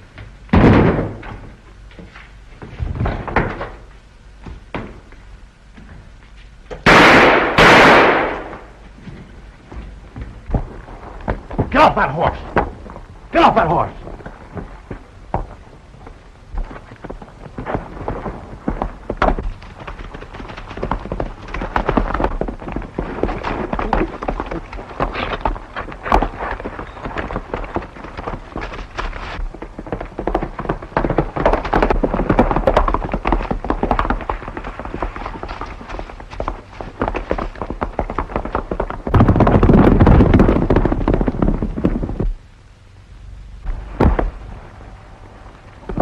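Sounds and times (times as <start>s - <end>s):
horse hoofbeats on dirt: 0.0s - 5.2s, 7.7s - 42.4s.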